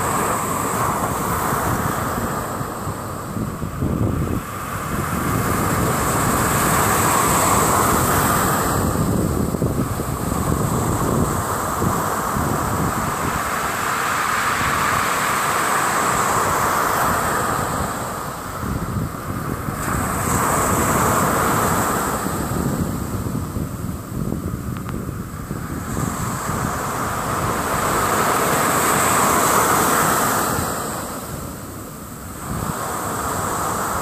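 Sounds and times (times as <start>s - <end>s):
ocean surf breaking: 0.0s - 34.0s
wind rumble on microphone: 0.0s - 34.0s.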